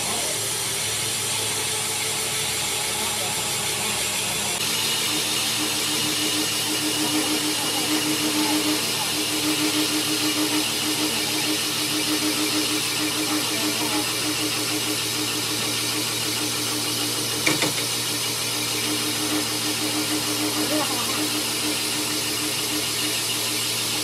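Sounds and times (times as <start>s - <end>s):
grinding wheel hissing: 0.0s - 24.0s
pulsing motor hum: 0.0s - 24.0s.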